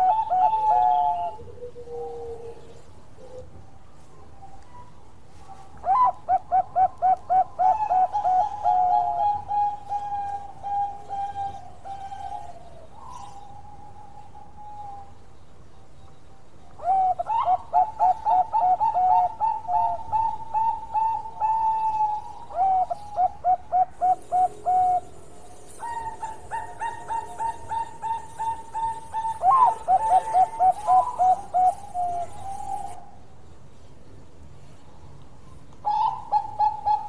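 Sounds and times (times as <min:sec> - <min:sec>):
dove cooing: 0:00.0 - 0:15.1, 0:16.8 - 0:33.2, 0:35.8 - 0:37.0.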